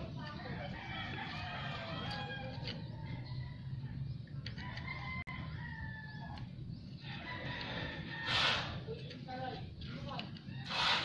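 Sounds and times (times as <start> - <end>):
roosters crowing: 0.3 - 8.9, 10.4 - 11.0.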